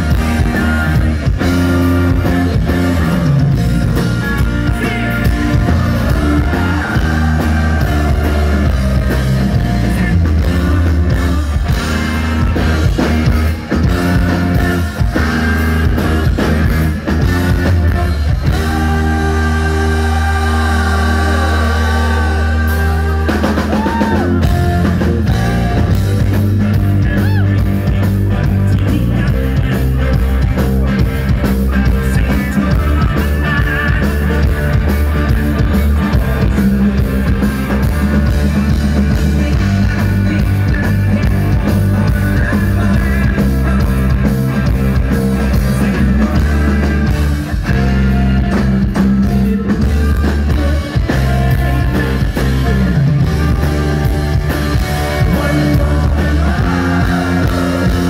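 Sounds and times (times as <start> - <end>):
person singing: 0.0 - 11.7, 12.4 - 49.0, 49.7 - 58.0
bass guitar: 0.0 - 58.0
drum kit: 0.0 - 58.0
electric guitar: 0.0 - 58.0.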